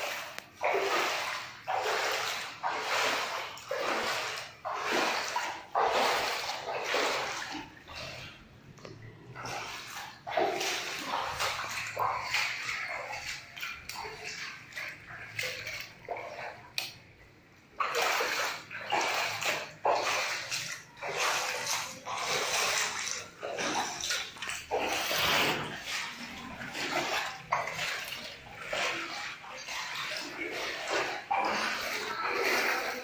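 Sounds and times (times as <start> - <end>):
water sloshing as person wades: 0.0 - 33.0.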